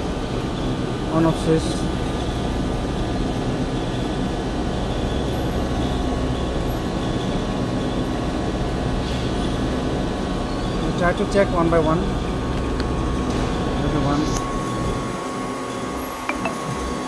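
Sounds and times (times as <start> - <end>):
constant hum: 0.0 - 17.0
steady mechanical drone: 0.0 - 17.0.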